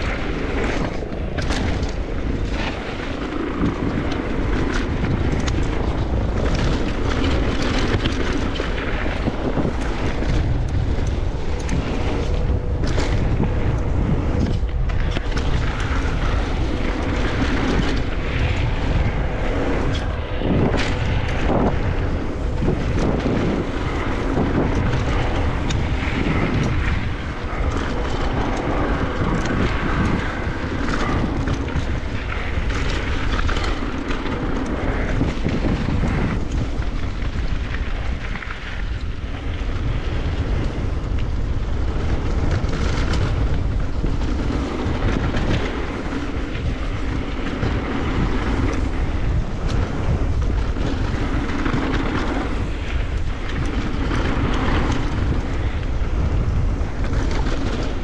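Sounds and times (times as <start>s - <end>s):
bike knocks and rattles: 0.0s - 58.0s
bike tyres rolling on dirt trail: 0.0s - 58.0s
wind rushing over microphone: 0.0s - 58.0s.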